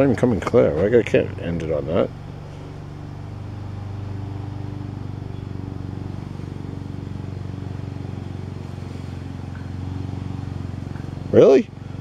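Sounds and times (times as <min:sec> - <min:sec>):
motor humming with fast throb: 0:00.0 - 0:12.0.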